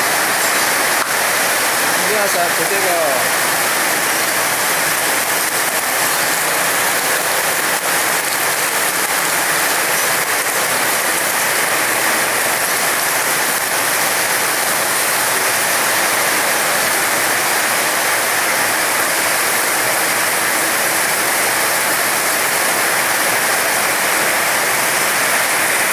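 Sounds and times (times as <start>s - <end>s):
heavy rain downpour: 0.0s - 25.9s.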